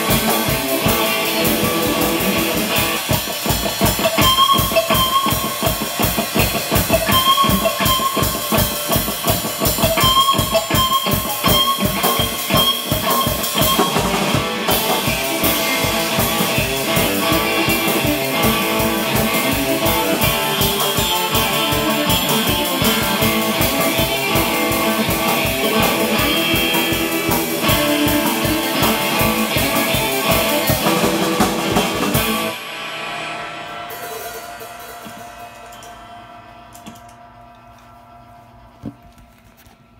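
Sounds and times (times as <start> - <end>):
surf electric guitar riff: 0.0 - 36.7
drum kit playing a steady beat: 0.0 - 37.1.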